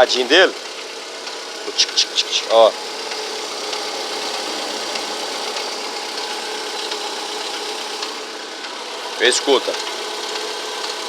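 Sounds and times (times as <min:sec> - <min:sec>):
car engine idling with ticking: 0:00.0 - 0:11.0.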